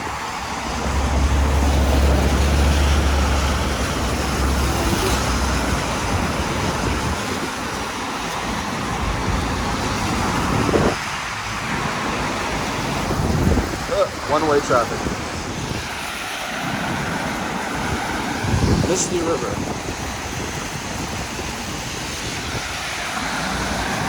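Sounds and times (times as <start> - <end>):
traffic on wet road: 0.0 - 24.0.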